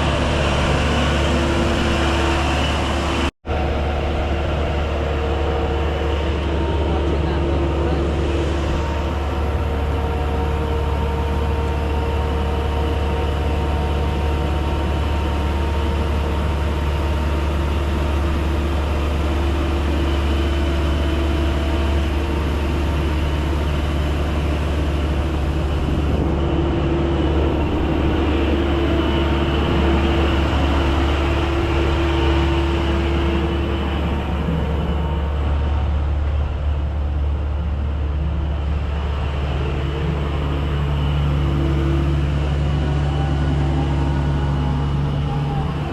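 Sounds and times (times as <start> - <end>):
engine idling: 0.0 - 45.9.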